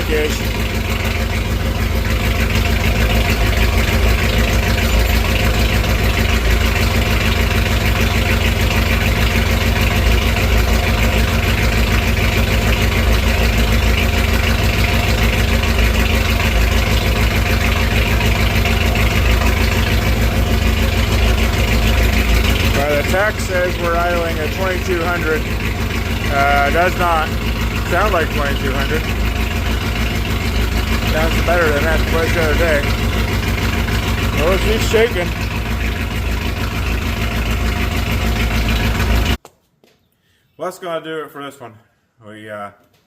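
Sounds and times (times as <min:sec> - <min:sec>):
engine idling without muffler: 0:00.0 - 0:39.4.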